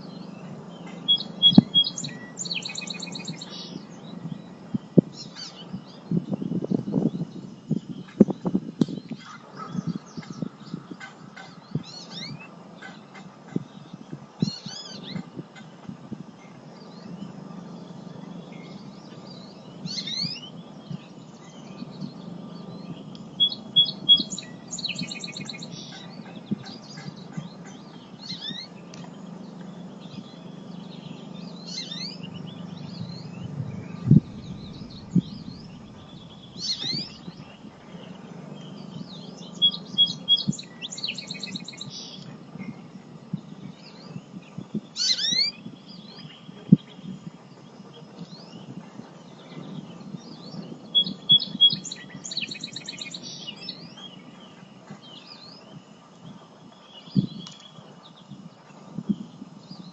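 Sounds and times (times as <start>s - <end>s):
songbirds chirping and calling: 0.0s - 59.9s
steady low hum: 0.0s - 59.9s.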